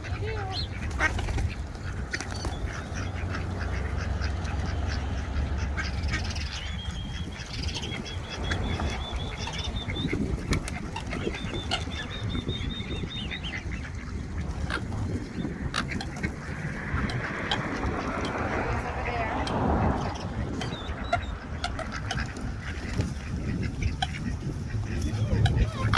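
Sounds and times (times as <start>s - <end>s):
bird calls: 0.0s - 25.9s
ducks quacking: 0.0s - 25.9s
low rumble: 2.8s - 25.9s.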